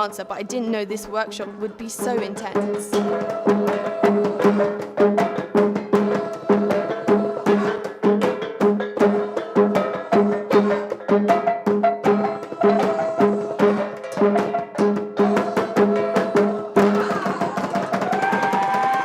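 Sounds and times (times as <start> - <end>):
pitched ringing percussion strikes: 0.0 - 19.0.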